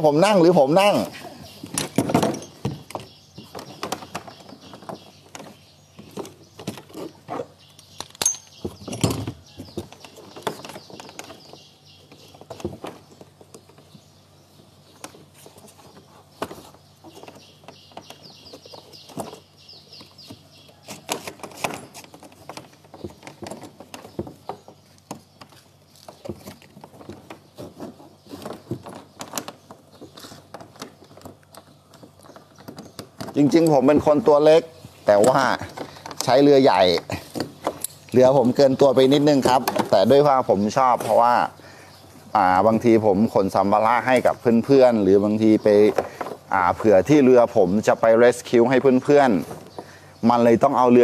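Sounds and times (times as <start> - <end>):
faint bird chirping: 0.0 - 51.0.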